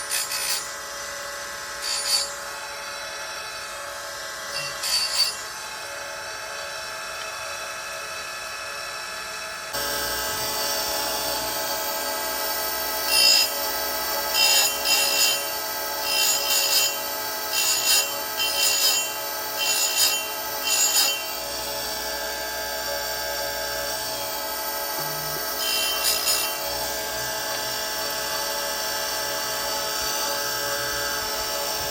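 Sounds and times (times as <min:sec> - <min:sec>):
electric chain grinder running: 0:00.0 - 0:31.9.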